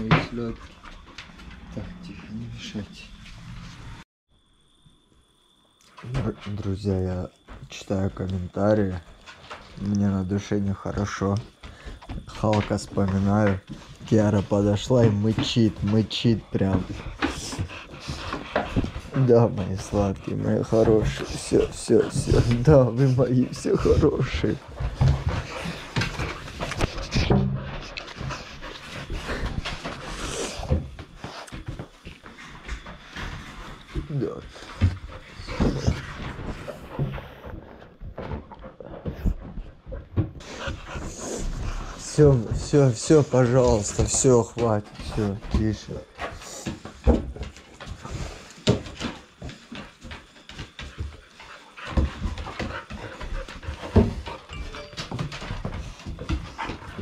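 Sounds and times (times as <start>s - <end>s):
dog panting and snuffling: 11.1s - 57.0s.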